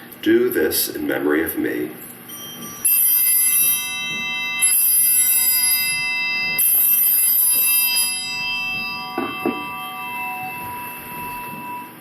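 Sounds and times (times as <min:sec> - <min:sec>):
altar bells ringing: 0:02.2 - 0:12.0.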